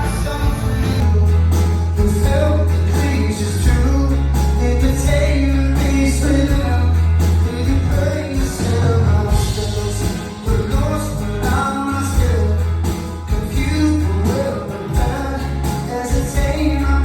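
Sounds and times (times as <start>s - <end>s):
live rock band playing: 0.0s - 17.0s
long held bass notes: 0.0s - 17.0s
steady drum beat: 0.0s - 17.0s.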